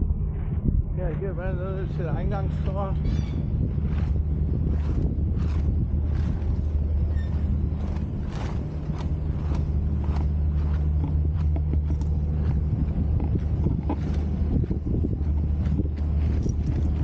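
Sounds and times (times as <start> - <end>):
wind buffeting microphone: 0.0 - 17.0
footsteps walking: 2.6 - 17.0.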